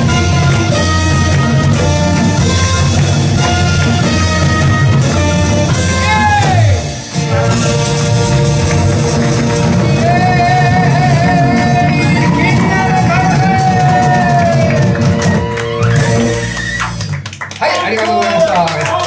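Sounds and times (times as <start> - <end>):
live band playing upbeat song: 0.0 - 19.0.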